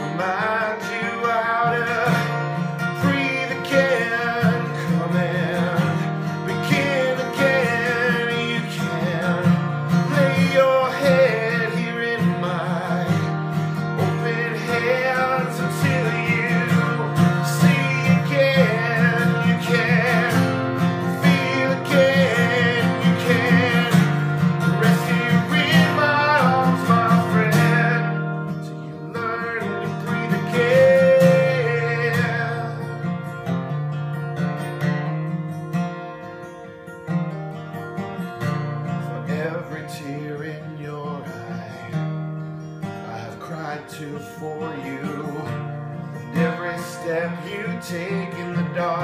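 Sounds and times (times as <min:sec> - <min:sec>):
man singing: 0:00.0 - 0:33.4, 0:38.8 - 0:49.0
acoustic guitar strumming: 0:00.0 - 0:49.0.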